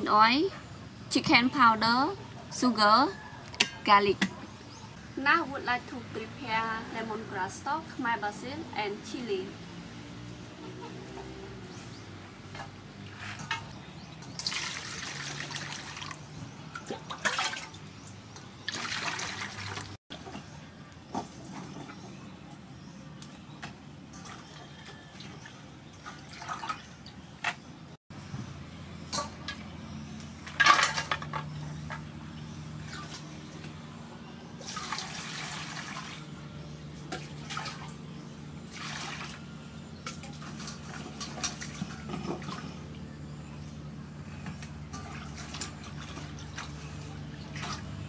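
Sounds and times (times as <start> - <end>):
water splashing and trickling: 6.5 - 28.0, 29.1 - 43.1, 44.3 - 48.0.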